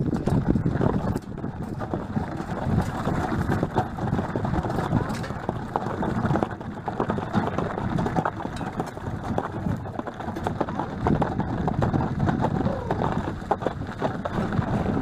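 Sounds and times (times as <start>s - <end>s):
hooves clip-clopping on gravel: 0.0s - 15.0s.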